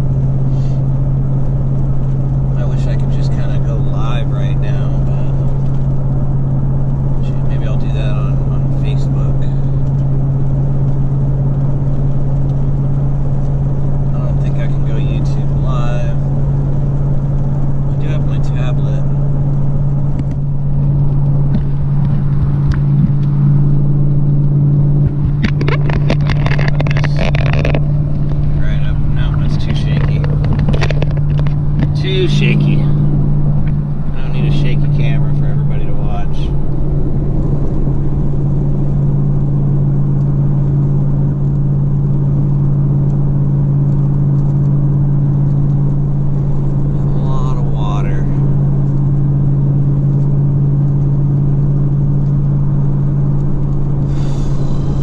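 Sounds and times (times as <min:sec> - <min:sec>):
car cruising road noise: 0:00.0 - 0:55.0.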